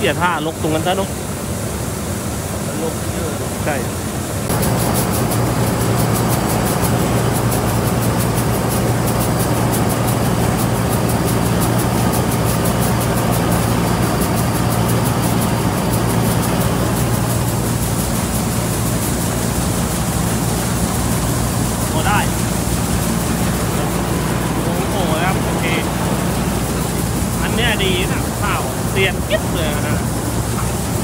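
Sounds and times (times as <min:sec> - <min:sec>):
engine drone: 0:00.0 - 0:31.0
fast even machinery ticking: 0:04.5 - 0:31.0.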